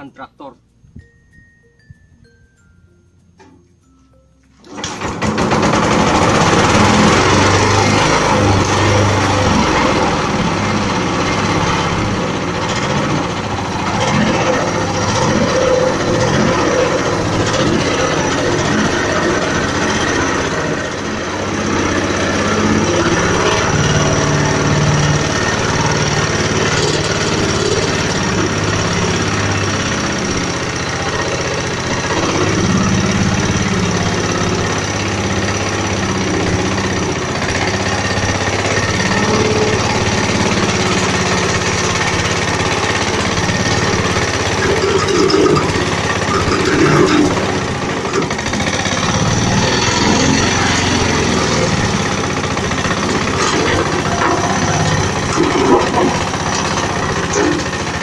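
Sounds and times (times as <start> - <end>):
hand tractor diesel engine running: 0.0 - 58.0.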